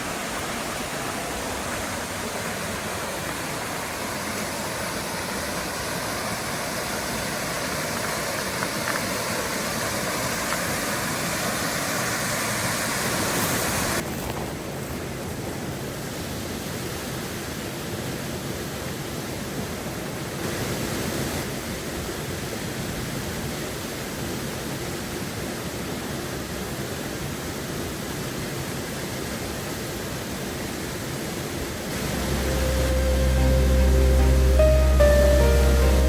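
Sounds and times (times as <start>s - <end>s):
mountain stream rushing: 0.0s - 36.0s.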